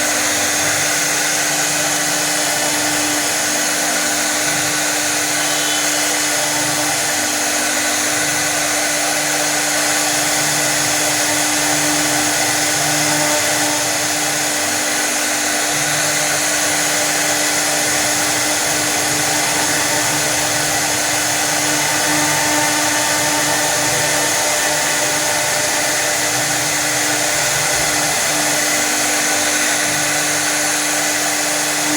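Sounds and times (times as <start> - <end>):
router hiss and hum: 0.0 - 31.9.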